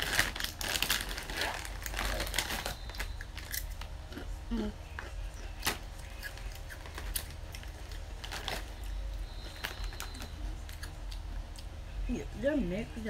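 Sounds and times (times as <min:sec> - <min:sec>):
chips crunching: 0:00.0 - 0:11.7
low hum: 0:00.0 - 0:13.0.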